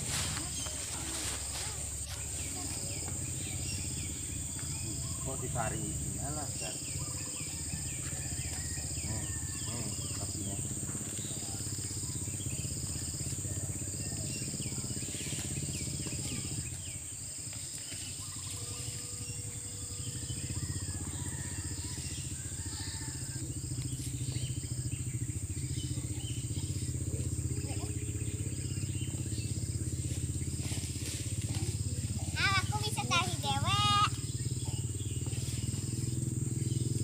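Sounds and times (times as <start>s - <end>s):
insect chirp: 0.0s - 37.0s
insects high-pitched drone: 0.0s - 37.0s
low steady hum: 0.0s - 37.0s.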